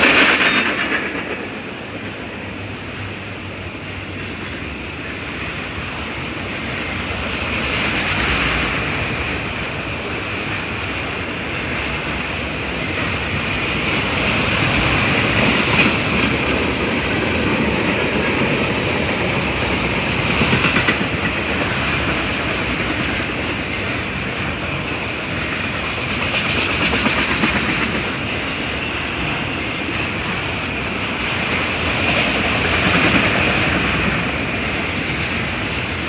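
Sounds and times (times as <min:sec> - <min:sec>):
train wheels rolling on rail: 0:00.0 - 0:36.0.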